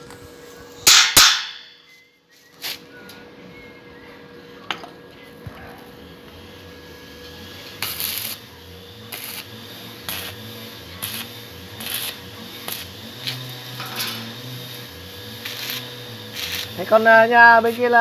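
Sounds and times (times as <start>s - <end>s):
arc welding crackling and hissing: 0.0s - 1.8s, 2.4s - 3.1s, 5.1s - 18.0s.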